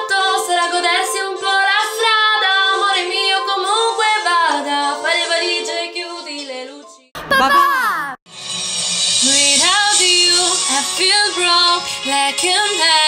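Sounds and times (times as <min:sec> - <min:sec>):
soft musical accompaniment: 0:00.0 - 0:07.1, 0:08.3 - 0:13.0
person singing pop song: 0:00.0 - 0:08.2, 0:09.2 - 0:13.0.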